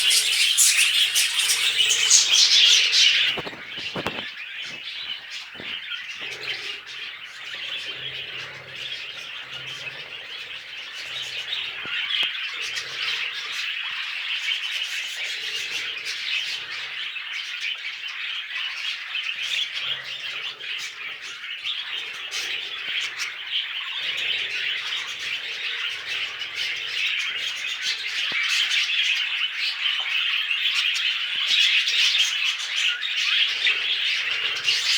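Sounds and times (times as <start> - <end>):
budgerigars chattering and warbling: 0.0 - 34.9.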